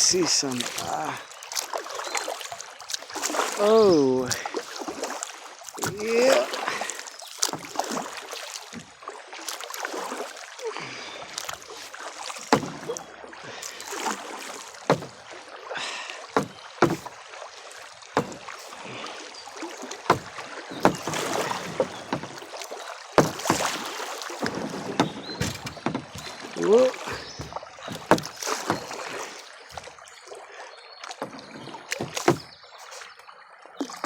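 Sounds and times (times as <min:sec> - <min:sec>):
paddle knocking: 0:00.0 - 0:33.1
water splashing against hull: 0:00.0 - 0:34.0.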